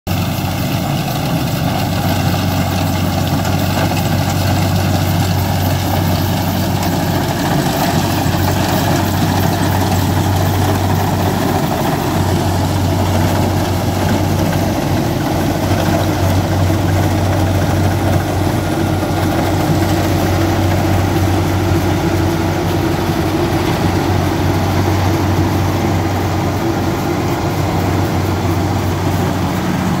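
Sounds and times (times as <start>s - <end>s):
combine harvester running: 0.1s - 30.0s.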